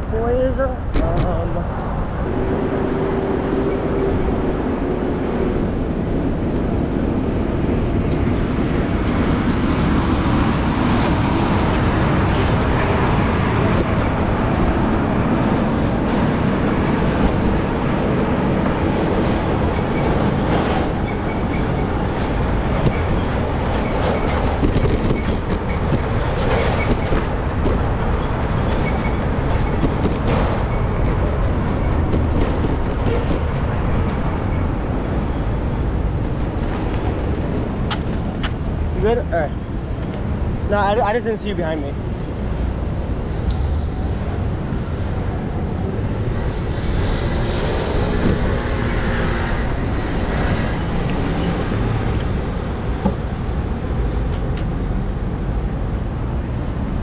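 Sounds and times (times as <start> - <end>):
traffic noise: 0.0 - 57.0
wind: 0.0 - 57.0.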